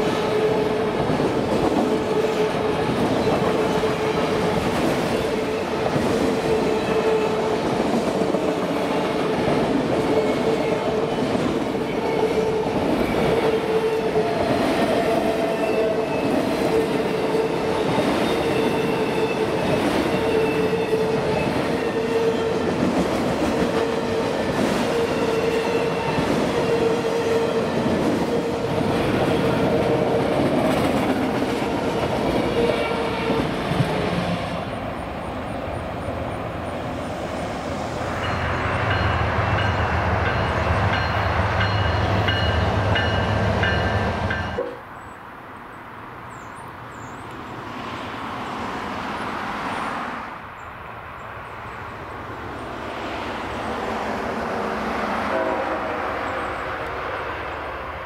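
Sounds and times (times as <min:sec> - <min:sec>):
train wheels humming on rails: 0:00.0 - 0:58.0.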